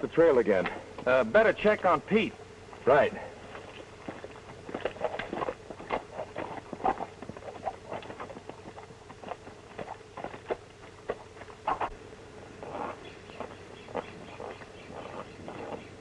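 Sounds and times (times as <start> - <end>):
faint soundtrack hum: 0.0 - 16.0.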